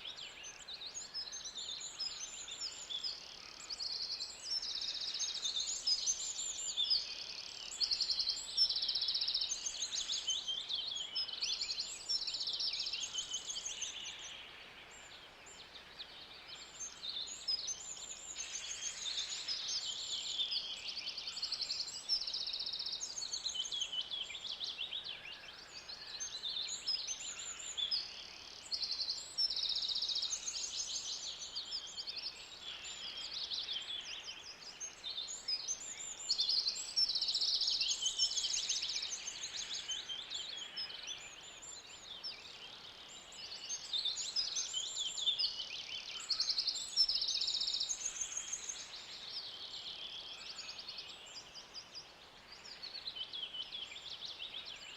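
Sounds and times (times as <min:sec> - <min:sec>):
birds chirping and trilling: 0:00.2 - 0:54.9.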